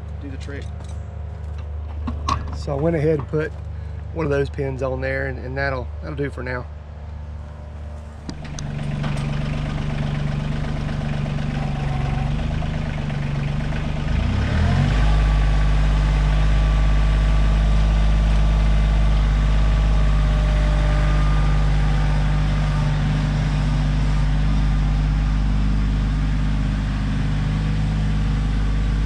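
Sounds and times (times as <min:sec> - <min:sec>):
tractor diesel engine: 0:00.0 - 0:29.0.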